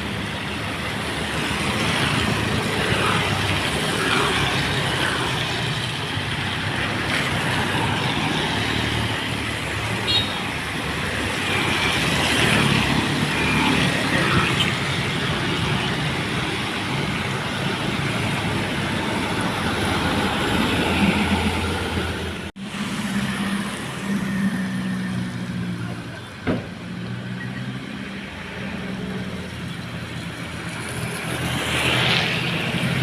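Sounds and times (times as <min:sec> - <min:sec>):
road and tyre noise: 0:00.0 - 0:33.0.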